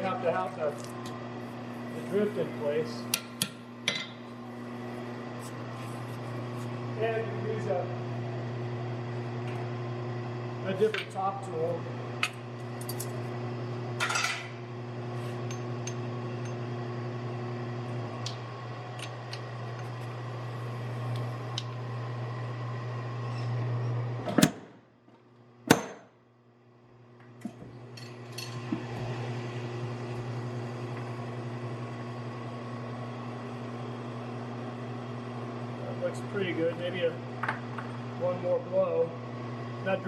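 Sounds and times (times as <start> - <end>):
low machine hum: 0.0 - 24.7, 26.4 - 40.0.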